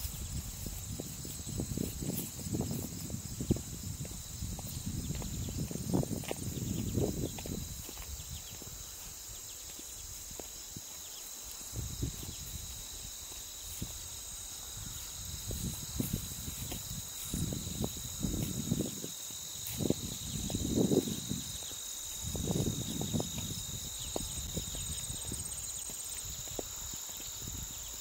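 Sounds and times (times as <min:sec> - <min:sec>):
crickets trilling: 0:00.0 - 0:28.0
footsteps on dirt path: 0:00.0 - 0:28.0.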